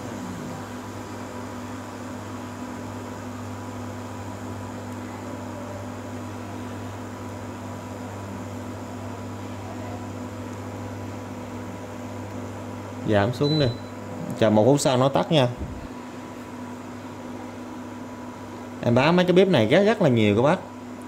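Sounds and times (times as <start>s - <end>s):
cooling fan whirring: 0.0s - 21.0s
induction cooktop electrical hum: 0.0s - 21.0s.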